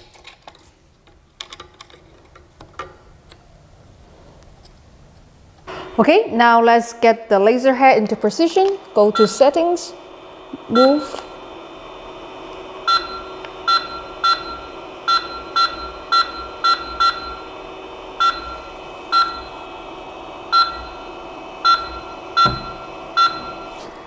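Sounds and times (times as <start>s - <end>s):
steady hum: 2.9s - 24.0s.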